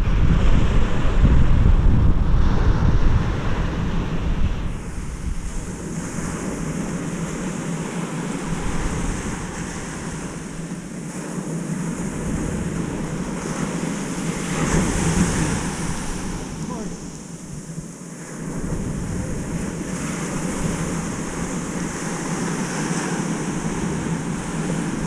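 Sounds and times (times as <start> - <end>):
ocean surf breaking on beach: 0.0 - 25.0
wind buffeting microphone: 0.0 - 25.0.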